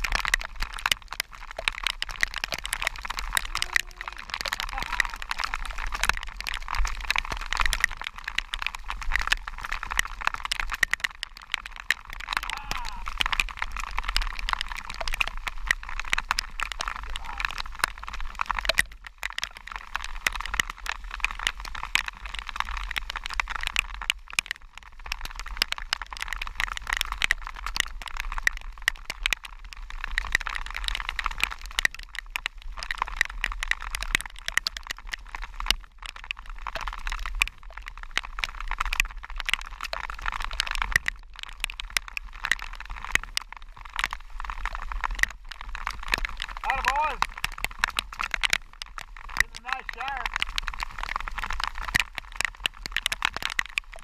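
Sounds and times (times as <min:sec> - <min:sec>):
rain drops striking camera case: 0:00.0 - 0:54.0.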